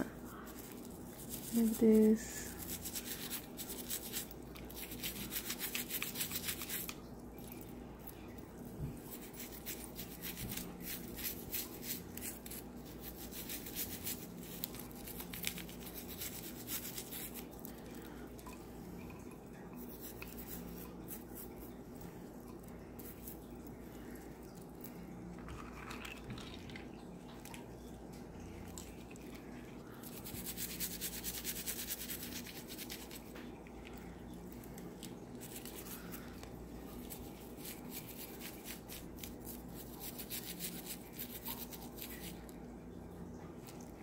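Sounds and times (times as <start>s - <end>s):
toothbrush scrubbing metal: 0.0s - 8.2s, 8.9s - 17.9s, 19.1s - 25.0s, 28.7s - 33.4s, 34.6s - 42.4s.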